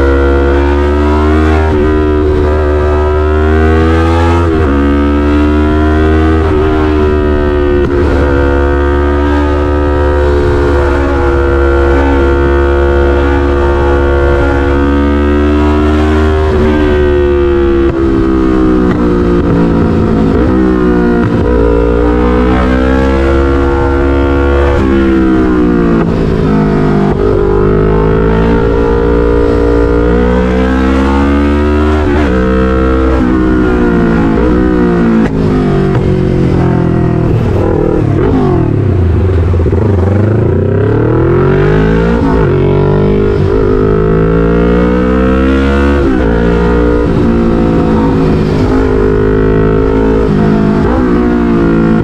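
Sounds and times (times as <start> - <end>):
motorcycle engine revving: 0.0 - 52.0
low wind rumble: 1.6 - 52.0.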